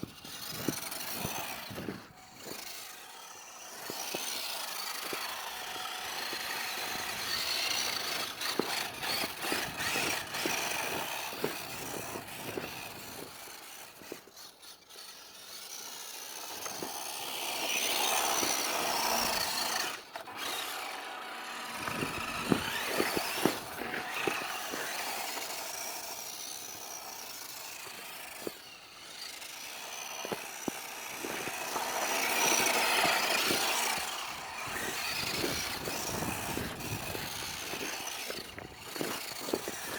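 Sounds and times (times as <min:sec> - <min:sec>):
toy truck motor whining: 0:00.0 - 0:39.9
tyres ticking and crunching: 0:00.0 - 0:39.9.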